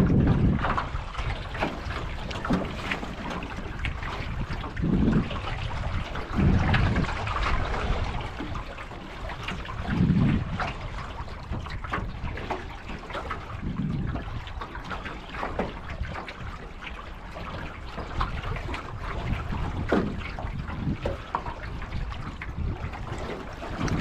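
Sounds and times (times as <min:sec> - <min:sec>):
water splashing against metal hull: 0:00.0 - 0:24.0
wind buffeting microphone: 0:00.0 - 0:24.0.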